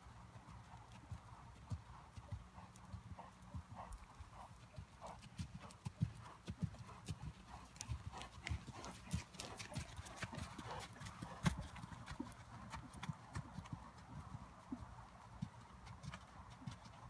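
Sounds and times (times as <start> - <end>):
horse hoofbeats on sand: 0.0 - 17.0.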